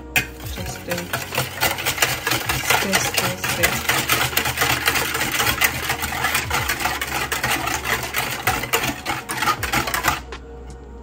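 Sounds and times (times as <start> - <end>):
electric hand mixer running: 0.0 - 10.4
beaters clicking against bowl: 0.2 - 10.4.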